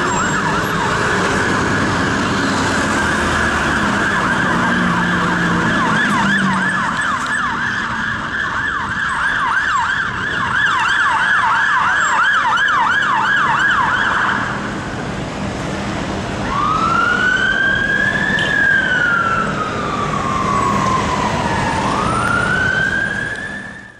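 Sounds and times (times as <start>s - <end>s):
siren yelping: 0.0s - 14.6s, 16.4s - 23.9s
siren wailing: 0.0s - 14.7s, 16.4s - 23.9s
street traffic: 0.0s - 23.9s.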